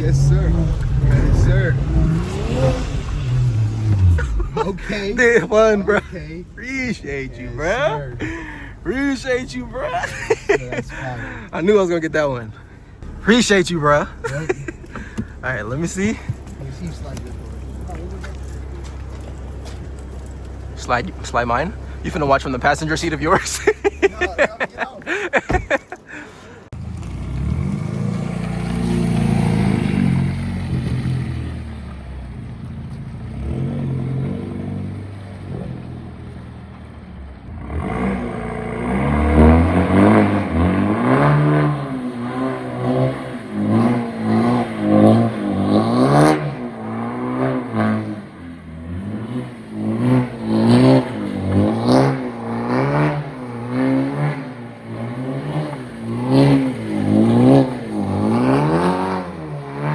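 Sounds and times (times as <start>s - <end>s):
car engine revving: 0.0s - 26.1s, 26.7s - 59.9s.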